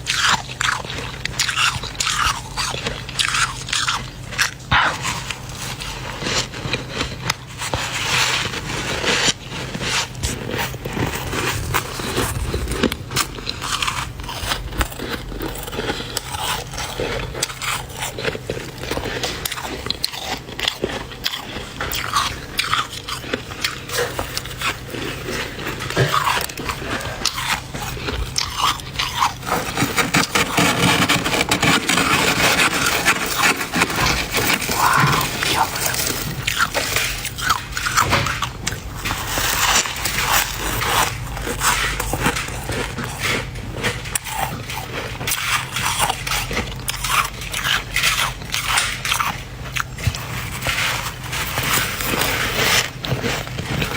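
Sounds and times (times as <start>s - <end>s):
crunching frost between teeth: 0.0s - 53.9s
spoon scraping frost: 0.0s - 53.9s.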